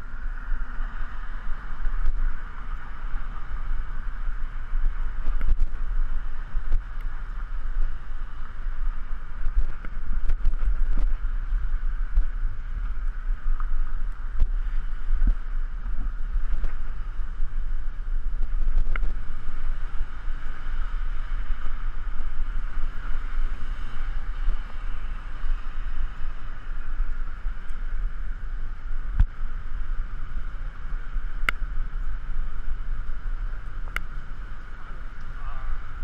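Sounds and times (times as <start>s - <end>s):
traffic hiss: 0.0s - 36.0s
wind buffeting microphone: 0.0s - 36.0s.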